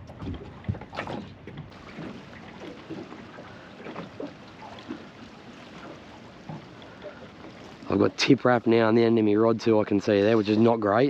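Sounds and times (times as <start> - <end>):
water around boat: 0.0 - 11.0.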